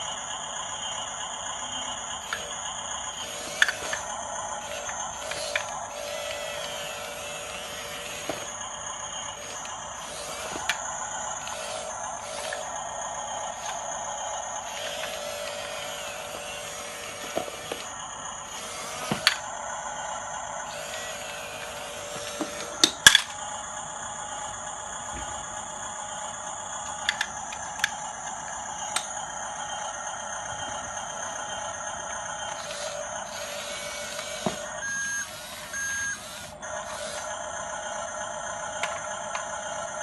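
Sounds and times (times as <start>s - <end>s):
electric motors whining: 0.0s - 40.0s.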